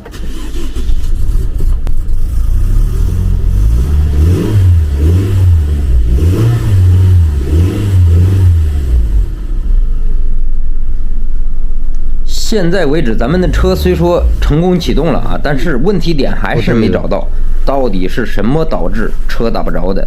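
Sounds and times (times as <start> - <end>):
car engine revving: 0.0 - 11.8, 12.4 - 19.4.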